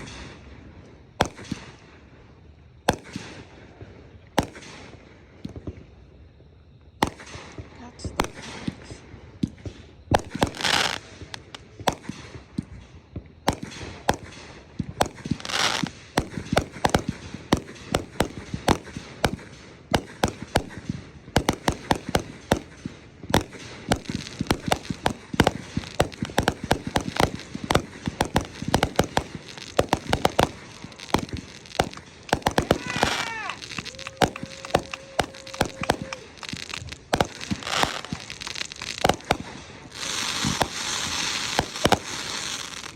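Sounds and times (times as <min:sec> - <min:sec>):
fireworks hissing bursts: 0:00.0 - 0:00.5, 0:07.0 - 0:12.7, 0:13.5 - 0:42.9
fireworks bangs and crackles: 0:00.0 - 0:42.9.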